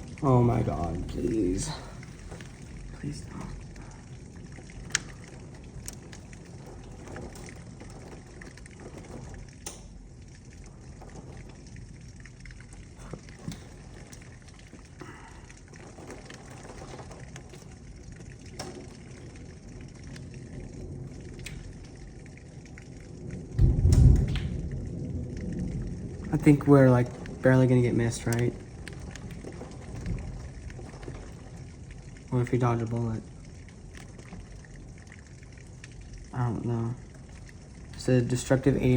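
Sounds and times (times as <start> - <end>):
heavy rain hiss: 0.0 - 38.9
sharp ticks of rain: 0.0 - 38.9
thunder rumble: 0.0 - 38.9.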